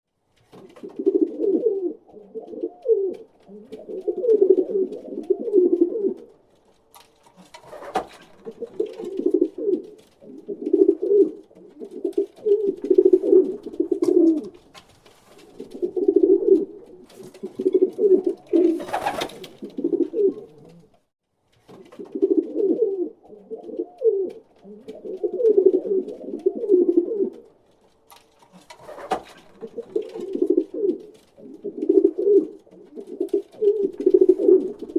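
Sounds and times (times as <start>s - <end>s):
pigeon cooing: 0.8s - 6.3s, 7.6s - 14.6s, 15.5s - 21.0s, 22.0s - 27.5s, 28.6s - 34.9s.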